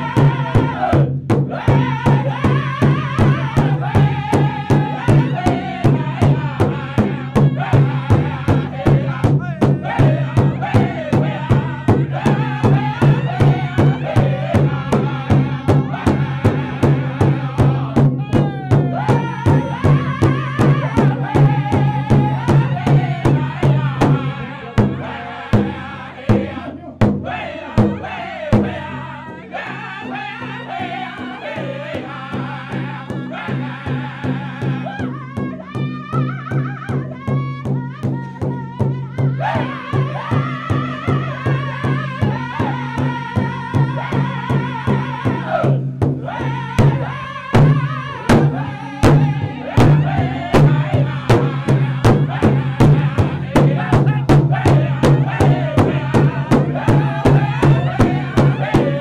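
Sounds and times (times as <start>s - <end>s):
group chanting in high voices: 0.0s - 36.0s, 39.4s - 59.0s
large bass drum beat: 0.0s - 59.0s.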